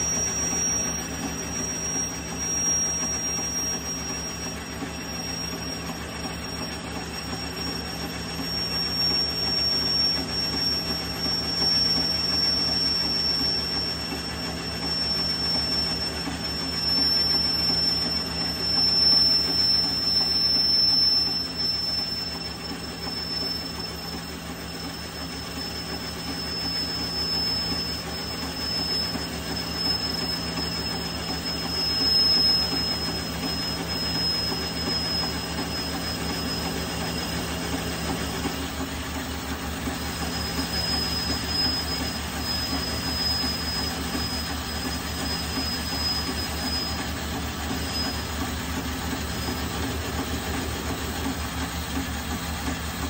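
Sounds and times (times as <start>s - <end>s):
metal lathe running: 0.0s - 53.0s
thin high-pitched whine: 0.0s - 53.0s.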